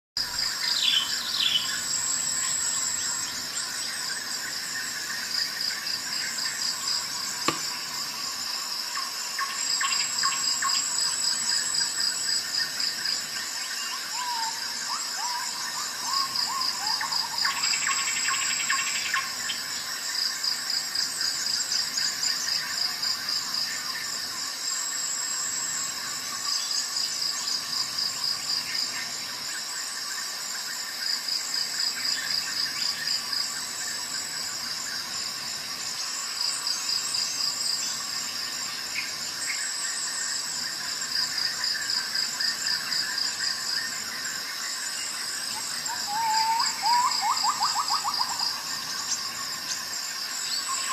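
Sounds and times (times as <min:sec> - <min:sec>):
insects chirping: 0:00.2 - 0:50.9.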